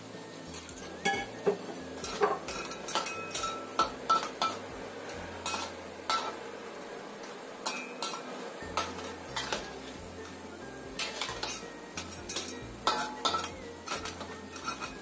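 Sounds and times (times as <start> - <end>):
metal spatula scraping wok: 0.4 - 6.6, 7.2 - 15.0.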